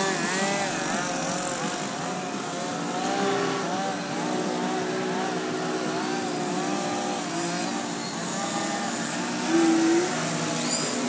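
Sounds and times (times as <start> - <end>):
model airplane engines running: 0.0 - 11.0.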